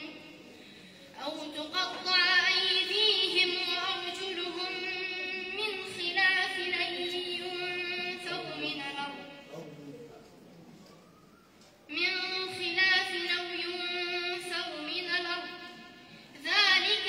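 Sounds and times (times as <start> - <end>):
woman reciting melodically: 0.0 - 9.6, 11.8 - 17.0.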